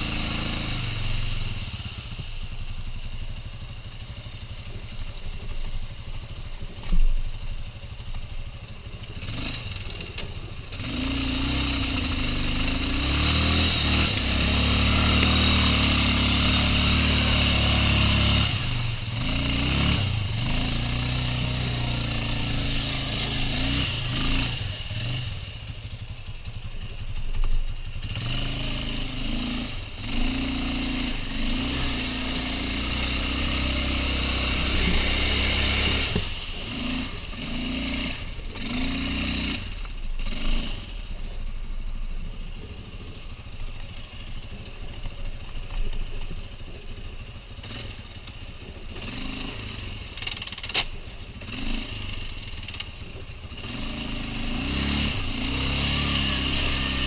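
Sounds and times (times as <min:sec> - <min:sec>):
quad bike engine revving: 0:00.0 - 0:02.7, 0:07.8 - 0:57.0.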